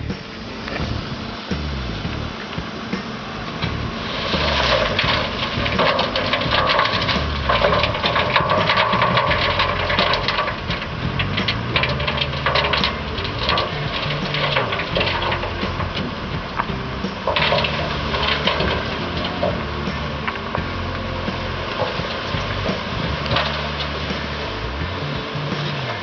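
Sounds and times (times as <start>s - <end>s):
diesel engine running: 0.0s - 26.0s
clatters and scrapes of stones: 3.7s - 26.0s.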